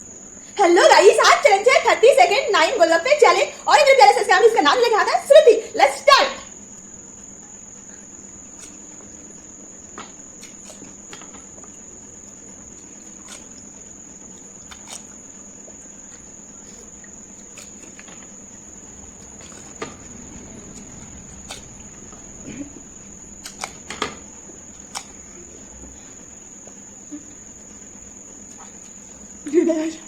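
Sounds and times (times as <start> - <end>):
steady high-pitched whine: 0.0 - 30.0.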